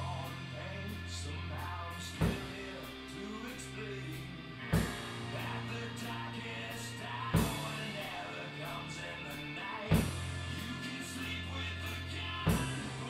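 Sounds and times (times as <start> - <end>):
double bass drum kit: 0.0 - 3.1, 4.1 - 8.9, 9.9 - 13.0
rock track: 0.0 - 13.0.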